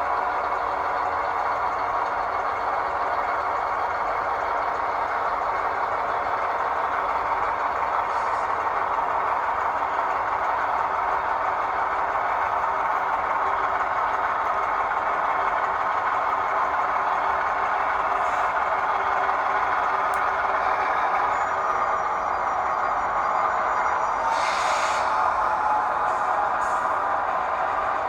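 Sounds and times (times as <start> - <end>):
diesel locomotive idling: 0.0 - 28.0.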